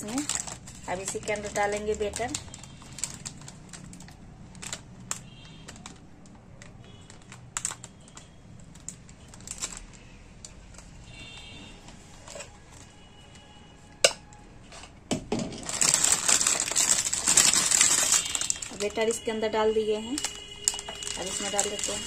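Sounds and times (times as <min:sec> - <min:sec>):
plastic bag crinkling: 0:00.0 - 0:13.6, 0:15.3 - 0:19.3, 0:20.0 - 0:22.0.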